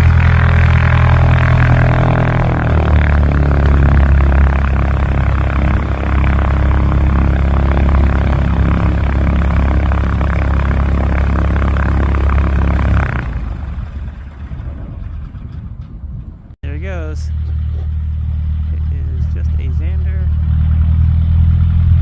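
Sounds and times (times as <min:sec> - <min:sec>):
light aircraft engine and propeller: 0:00.0 - 0:22.0.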